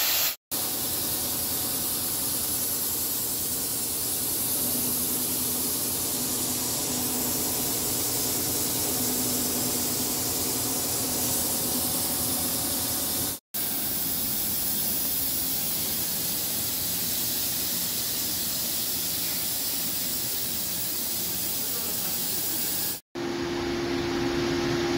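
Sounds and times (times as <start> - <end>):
milling machine hiss: 0.0 - 23.0.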